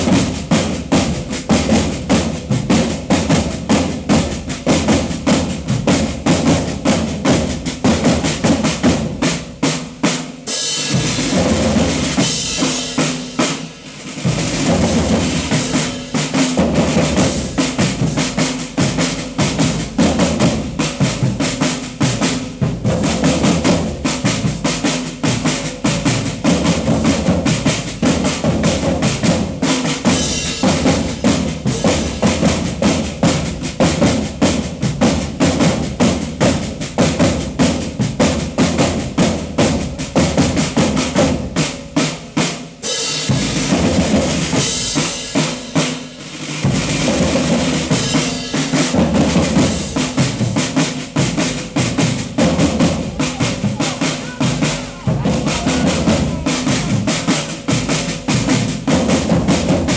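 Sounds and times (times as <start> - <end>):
marching drums playing cadence: 0.0 - 59.9.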